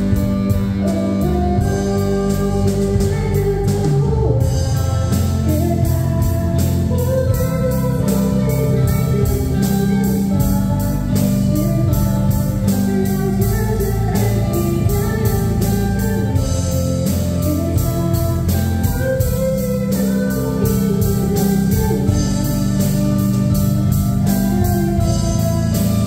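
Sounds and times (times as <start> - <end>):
girl singing into microphone: 0.0 - 26.0
live pop-rock band playing: 0.0 - 26.0.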